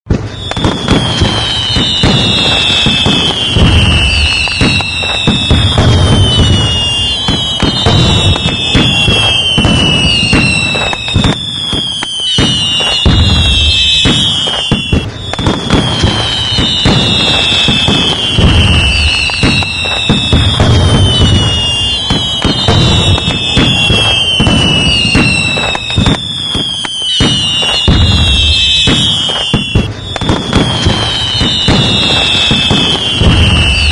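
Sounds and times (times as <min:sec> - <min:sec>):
fireworks crackling and banging: 0:00.1 - 0:33.9
whistling fireworks shrieking: 0:00.1 - 0:33.9.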